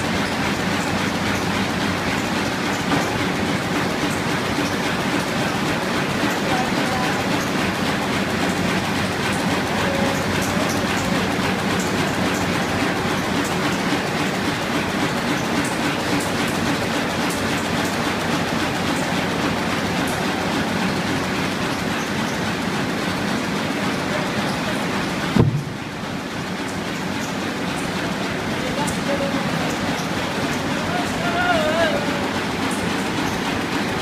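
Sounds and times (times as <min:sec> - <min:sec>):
printing press clattering: 0:00.0 - 0:34.0.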